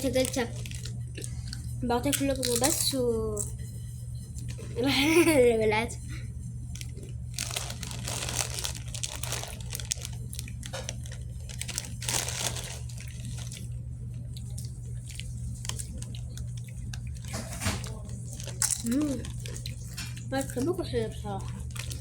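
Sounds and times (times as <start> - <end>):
plastic packaging crinkling: 0.0 - 2.9, 6.6 - 22.0
steady low hum: 0.0 - 22.0.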